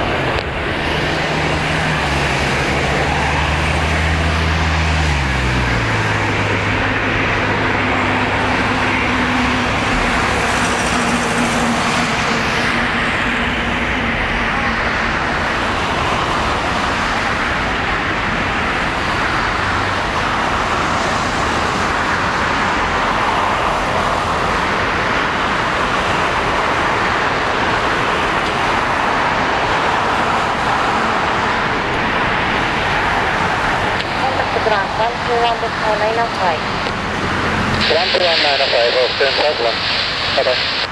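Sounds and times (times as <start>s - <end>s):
jet airliner engine roar: 0.0s - 40.9s.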